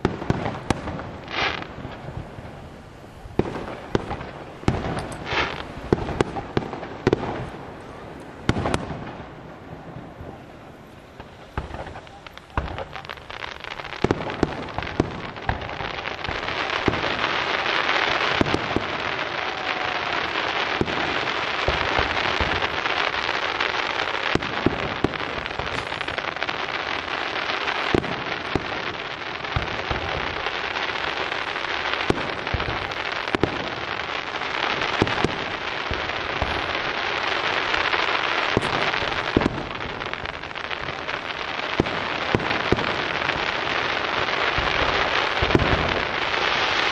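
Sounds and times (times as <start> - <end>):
firework bangs: 0.0 - 46.9
fireworks crackling: 0.0 - 46.9.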